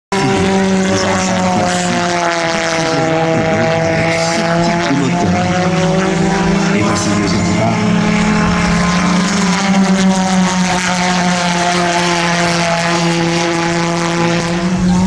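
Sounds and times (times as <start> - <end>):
pulsejet engine drone: 0.1 - 15.0.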